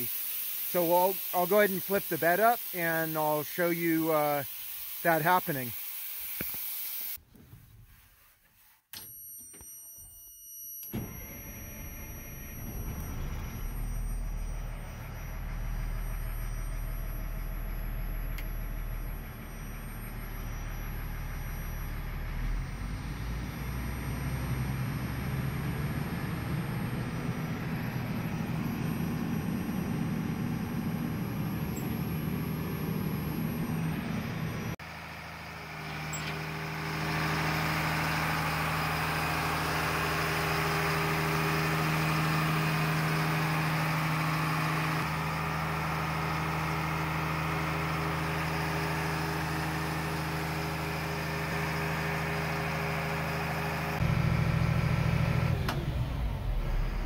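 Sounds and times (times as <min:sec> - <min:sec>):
diesel truck engine with hydraulic pump: 0:00.0 - 0:07.2, 0:10.8 - 0:57.0.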